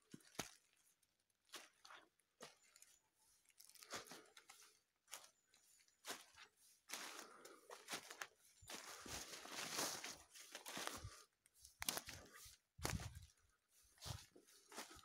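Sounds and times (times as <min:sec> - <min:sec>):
footsteps crunching dry leaves: 0:00.1 - 0:15.0.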